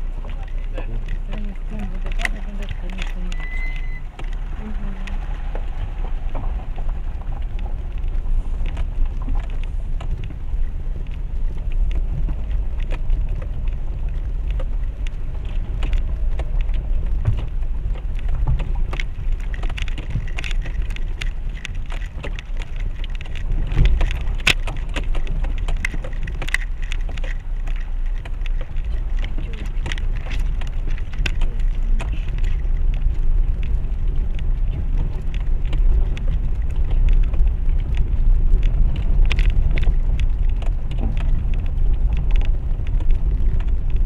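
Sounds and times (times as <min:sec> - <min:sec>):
car rumbling on rocky road: 0:00.0 - 0:44.0
stones knocking under tyres: 0:00.0 - 0:44.0.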